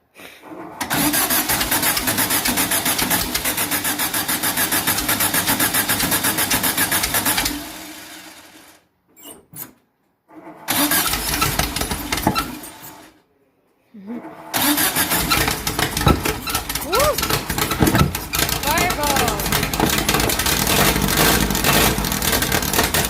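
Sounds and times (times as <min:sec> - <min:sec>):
car engine cranking: 0:00.4 - 0:08.0, 0:10.4 - 0:13.1, 0:14.3 - 0:23.0.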